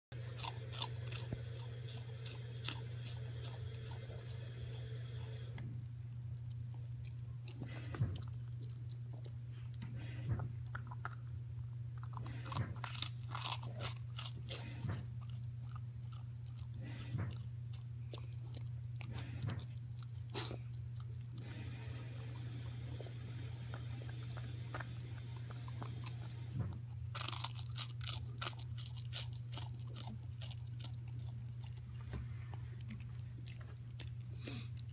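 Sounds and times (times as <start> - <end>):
low electrical hum: 0.1 - 34.9
puppy chewing: 0.2 - 34.9.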